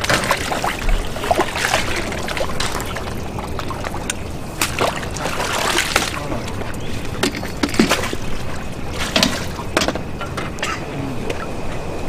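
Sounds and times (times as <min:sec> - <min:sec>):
fish splashing in water: 0:00.0 - 0:10.2
steady outdoor hiss: 0:00.0 - 0:12.0.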